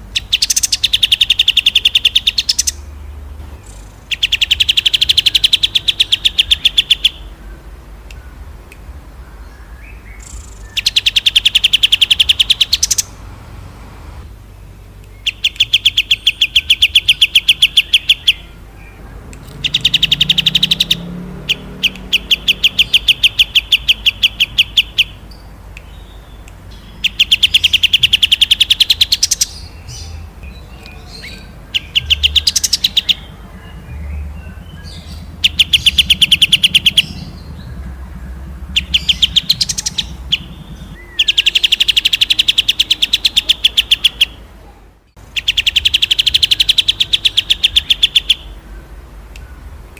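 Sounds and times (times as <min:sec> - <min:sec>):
songbird rattling trills: 0:00.0 - 0:13.6, 0:14.3 - 0:44.5, 0:45.3 - 0:48.7
faint low hum: 0:00.0 - 0:47.2.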